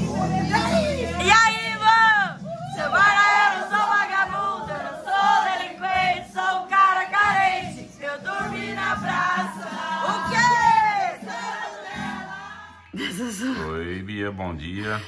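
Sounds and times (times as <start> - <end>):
recorded music: 0.0 - 15.0
women singing along: 0.2 - 13.0.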